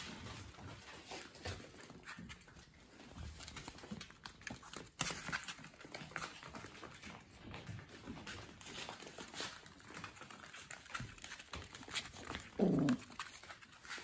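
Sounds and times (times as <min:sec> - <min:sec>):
puppy claws clicking on floor: 0:00.0 - 0:14.0.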